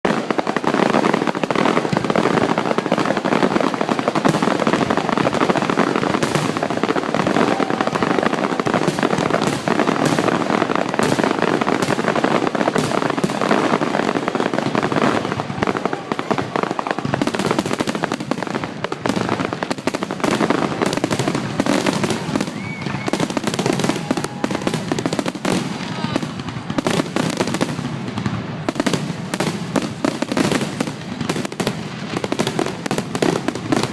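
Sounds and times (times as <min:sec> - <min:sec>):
fireworks bursting and crackling: 0:00.0 - 0:33.9.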